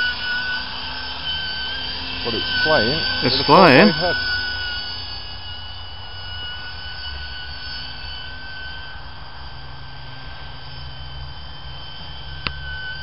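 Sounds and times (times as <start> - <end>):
model helicopter whine: 0.0 - 13.0.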